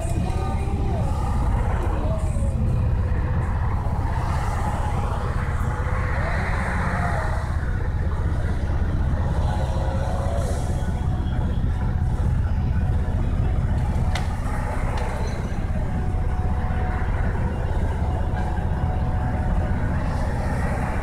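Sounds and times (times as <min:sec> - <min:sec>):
crane engine rumbling: 0:00.0 - 0:21.0.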